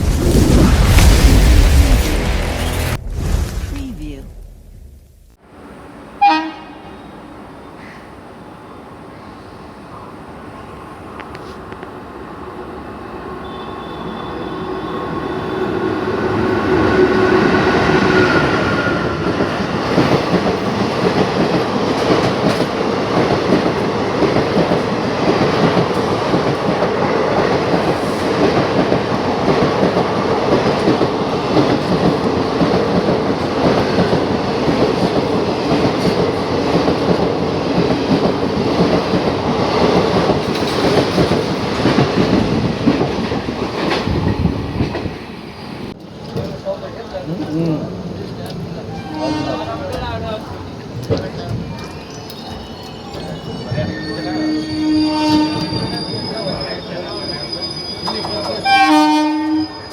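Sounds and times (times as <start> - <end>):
train passing: 0.0 - 59.9.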